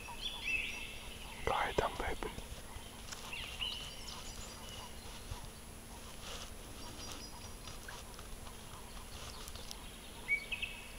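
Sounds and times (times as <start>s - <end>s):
faint ticks and rustling: 0.0s - 10.9s.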